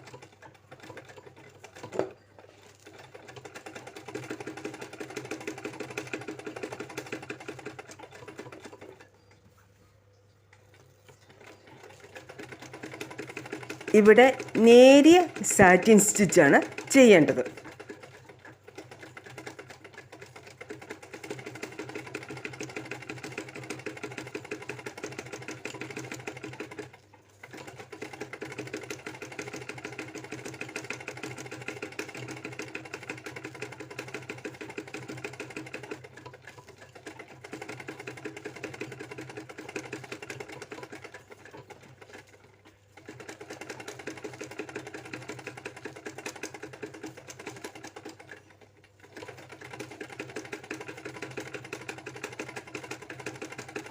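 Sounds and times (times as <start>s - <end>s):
sewing machine stitching: 0.0s - 9.2s, 10.5s - 53.9s.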